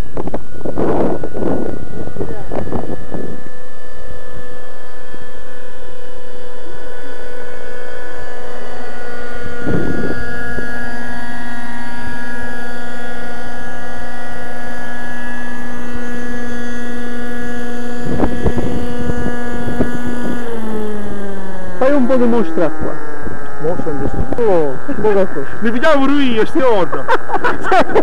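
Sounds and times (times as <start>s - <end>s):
model helicopter engine and rotors: 0.0s - 28.0s.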